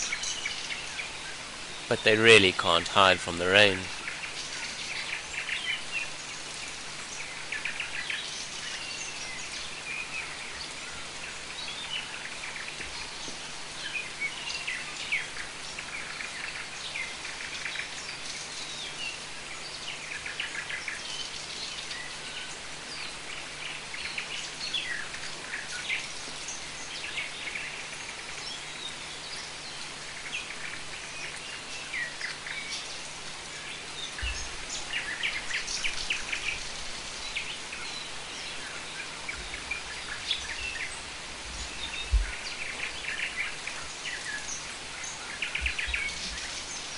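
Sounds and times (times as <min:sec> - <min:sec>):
birds chirping and calling: 0:00.0 - 0:46.9
steady rain falling: 0:00.0 - 0:46.9.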